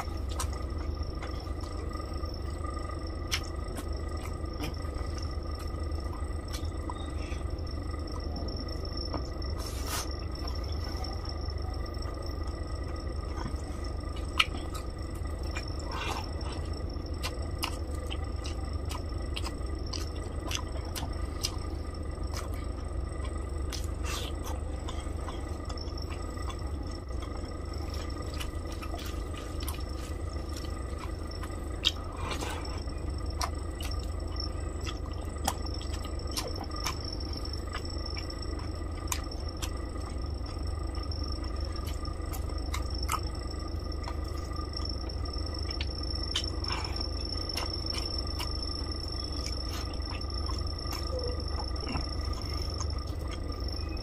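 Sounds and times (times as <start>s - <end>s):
chewing: 0.0s - 54.0s
low hum: 0.0s - 54.0s.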